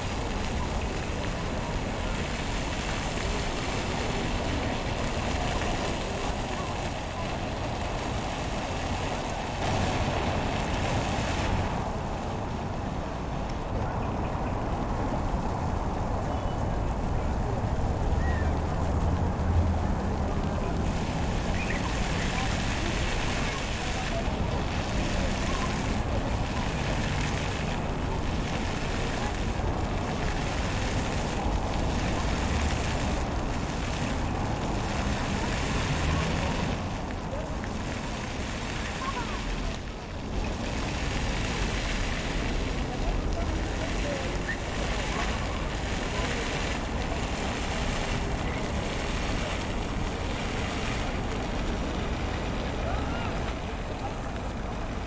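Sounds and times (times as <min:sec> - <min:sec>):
outdoor street ambience: 0:00.0 - 0:55.0
road traffic: 0:00.0 - 0:55.0.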